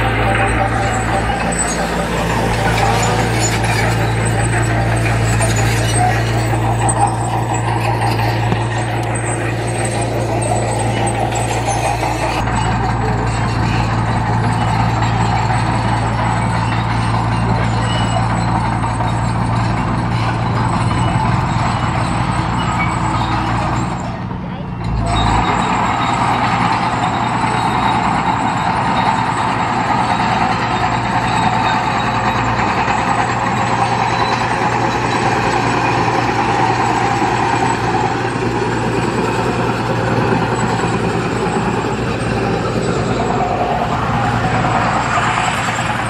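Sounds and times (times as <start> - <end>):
bulldozer diesel engine humming: 0.0 - 46.0.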